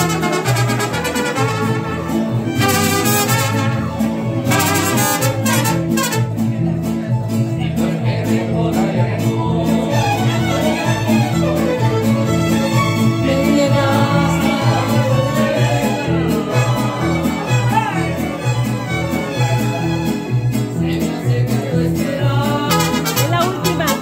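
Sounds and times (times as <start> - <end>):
mariachi band playing: 0.0 - 24.0.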